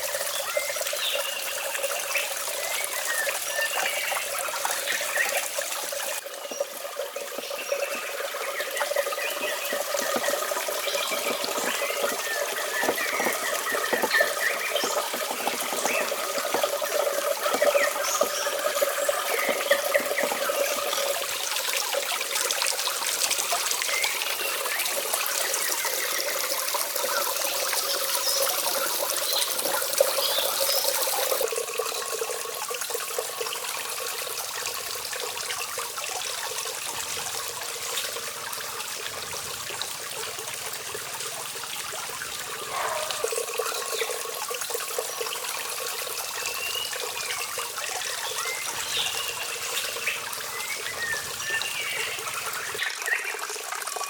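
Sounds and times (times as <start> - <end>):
water running and trickling: 0.0 - 54.0.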